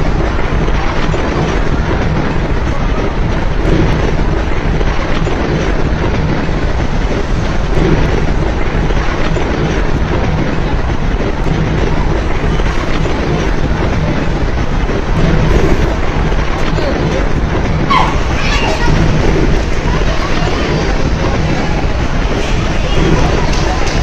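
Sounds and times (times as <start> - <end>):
deep rumble: 0.0 - 24.0
echoing crowd din: 0.0 - 24.0.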